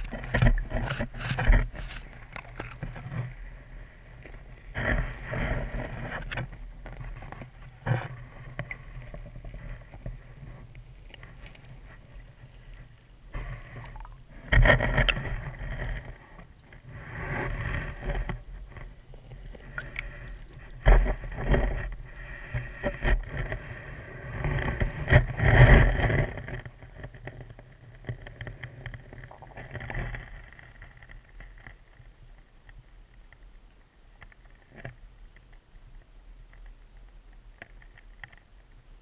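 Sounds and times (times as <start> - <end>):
muffled underwater water noise: 0.0 - 39.0.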